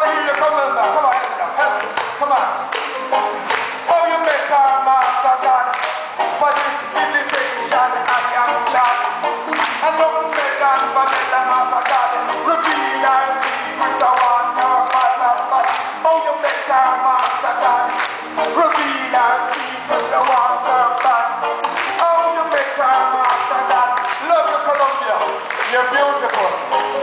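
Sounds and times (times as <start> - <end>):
audience clapping along: 0.0 - 27.0
man singing through microphone: 0.0 - 27.0.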